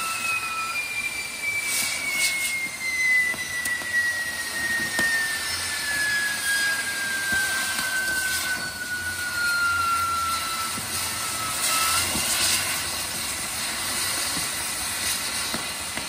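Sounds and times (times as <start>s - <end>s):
falling firework whistle: 0.0s - 16.0s
firework crackles and pops: 0.0s - 16.0s
firework sparks hissing: 0.0s - 16.0s.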